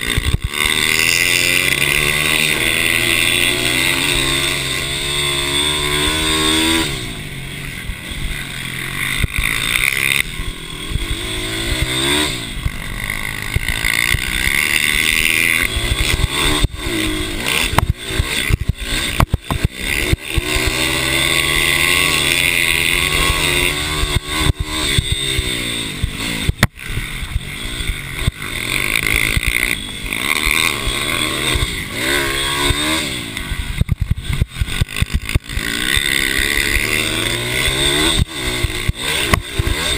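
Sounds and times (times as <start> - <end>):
mini bike engines revving: 0.0 - 39.9.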